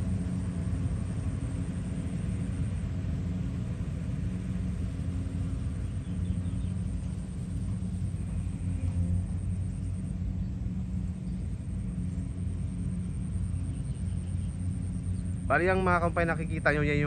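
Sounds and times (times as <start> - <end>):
farm machinery engines droning: 0.0 - 17.0.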